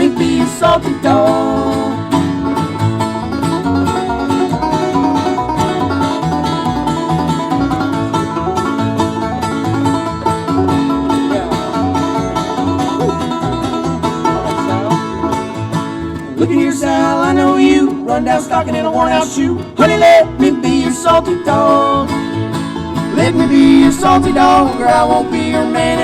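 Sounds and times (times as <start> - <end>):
fast-picked banjo: 0.0 - 26.0
stand-up bass: 0.0 - 26.0
strummed strings: 0.0 - 26.0.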